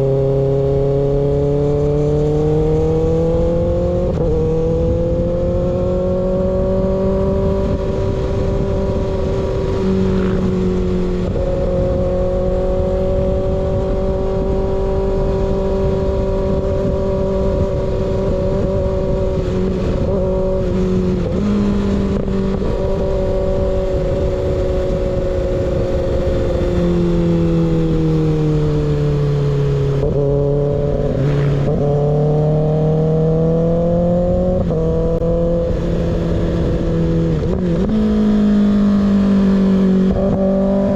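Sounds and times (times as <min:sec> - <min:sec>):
motorcycle engine revving: 0:00.0 - 0:40.9
road noise rush: 0:00.0 - 0:40.9.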